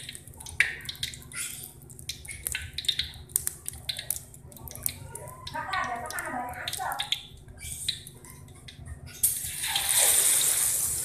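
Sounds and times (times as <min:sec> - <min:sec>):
hot oil crackling and popping: 0:00.0 - 0:11.0.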